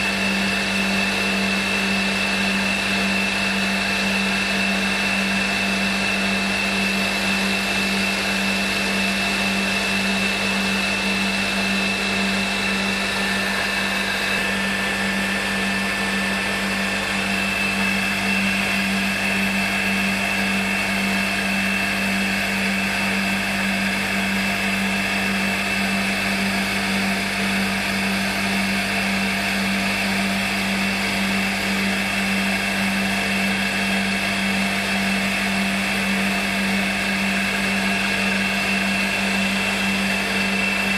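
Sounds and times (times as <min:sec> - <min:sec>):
milling machine spindle whining: 0:00.0 - 0:40.9.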